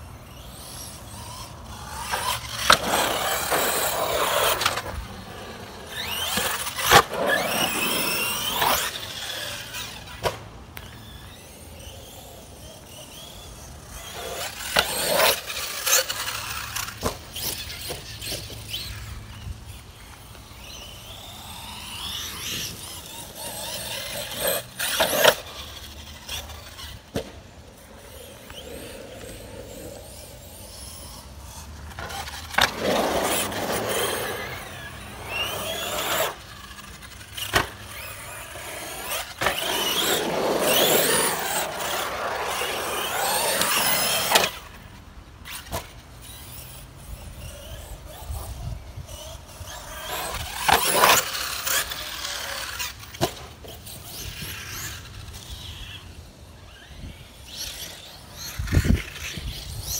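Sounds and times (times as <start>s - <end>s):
tyres squealing on concrete: 0.2s - 59.9s.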